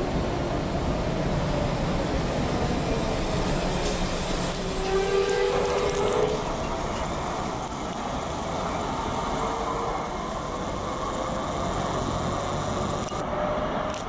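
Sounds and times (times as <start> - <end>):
train rail rumble: 0.0 - 14.0.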